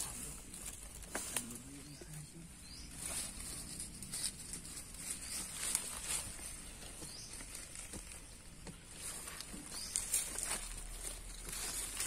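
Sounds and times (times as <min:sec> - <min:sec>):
soil and leaves scraping: 0:00.0 - 0:12.0.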